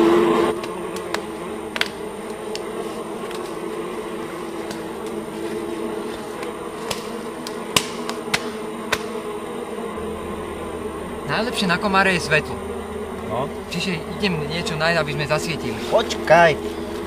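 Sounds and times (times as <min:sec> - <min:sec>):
mosquitoes buzzing: 0:00.0 - 0:17.0.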